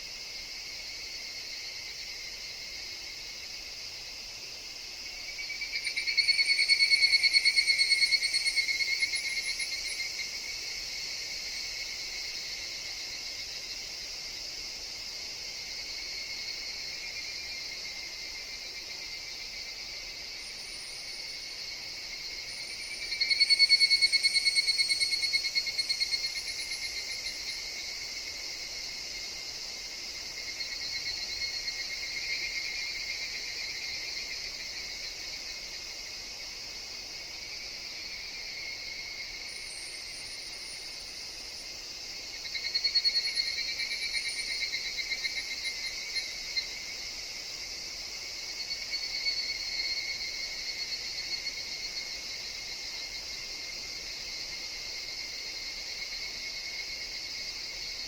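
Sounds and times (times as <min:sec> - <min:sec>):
cicadas calling with pulsing trill: 0:00.0 - 0:58.0
high insect drone: 0:00.0 - 0:58.0.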